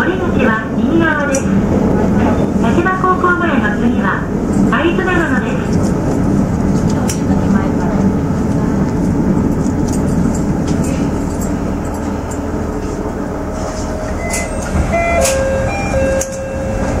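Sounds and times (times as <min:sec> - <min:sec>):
railcar engine and wheels rumbling: 0:00.0 - 0:17.0.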